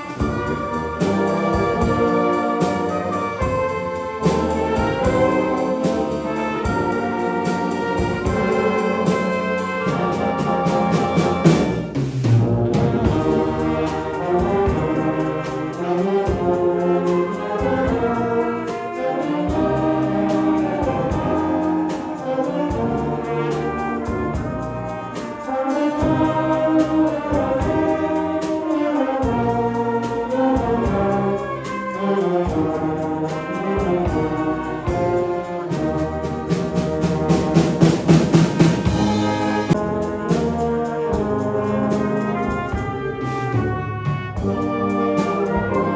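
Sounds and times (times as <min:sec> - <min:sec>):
brass: 0:00.0 - 0:45.9
wind band playing: 0:00.0 - 0:45.9.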